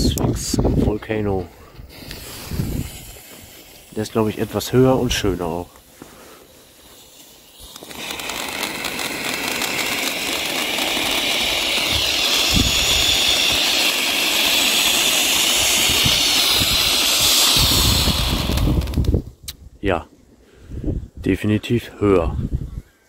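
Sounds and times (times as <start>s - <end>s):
firework fuse sputtering: 0.0s - 19.5s
fountain firework hissing: 0.7s - 19.2s.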